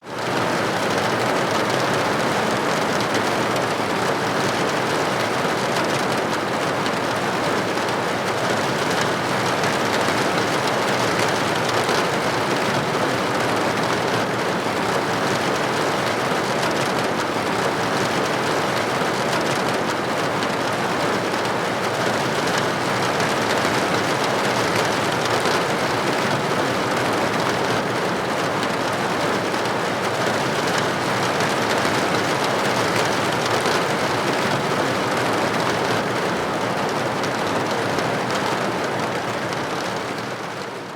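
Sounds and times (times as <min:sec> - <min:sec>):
rain on a roof: 0:00.0 - 0:40.9.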